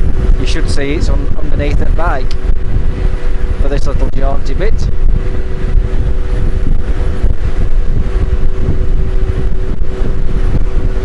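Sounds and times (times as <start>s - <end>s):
fluttering wind rush: 0.0s - 11.0s
motorcycle steady hum: 0.0s - 11.0s
road rumble: 0.0s - 11.0s.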